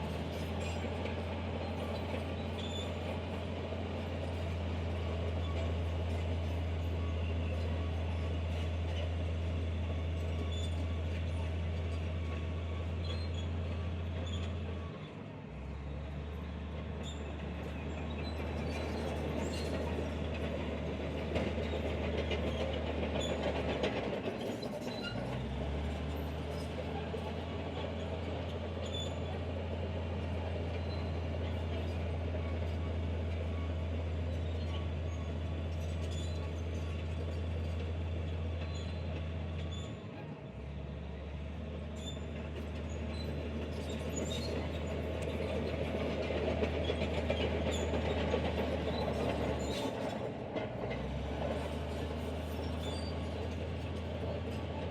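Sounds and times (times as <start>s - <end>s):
diesel machinery engine rumble: 0.0s - 54.9s.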